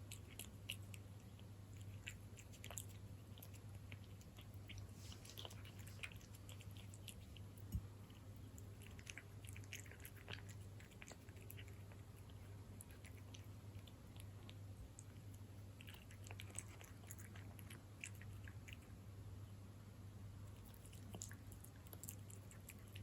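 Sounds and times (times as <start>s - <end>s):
cat chewing and lapping food: 0.0s - 19.1s, 20.4s - 23.0s
steady low hum: 0.0s - 23.0s.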